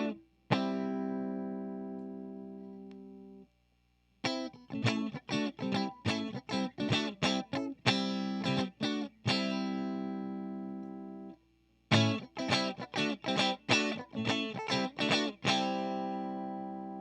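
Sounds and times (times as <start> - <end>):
electric guitar strumming chords: 0.0 - 3.4, 4.2 - 17.0.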